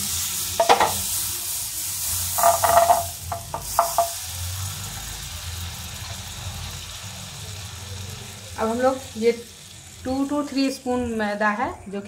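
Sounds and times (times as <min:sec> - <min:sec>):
butter sizzling in a pan: 0:00.0 - 0:12.0.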